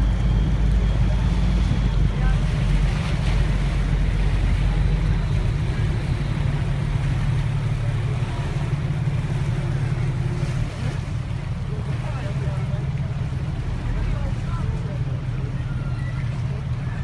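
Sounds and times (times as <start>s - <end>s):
boat engine droning: 0.0s - 17.0s
water rushing: 0.0s - 17.0s
wind: 0.0s - 17.0s.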